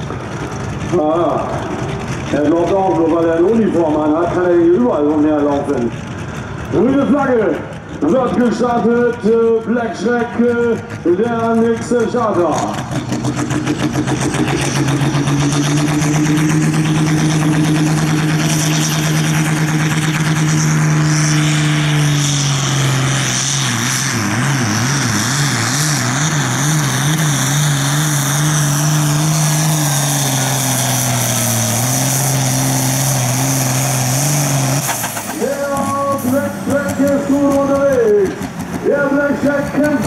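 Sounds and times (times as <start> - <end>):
tractor diesel engine straining: 0.0 - 40.0.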